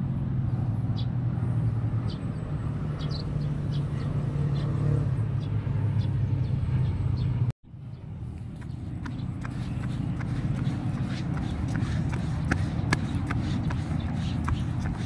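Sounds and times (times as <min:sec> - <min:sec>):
road traffic drone: 0:00.0 - 0:15.0.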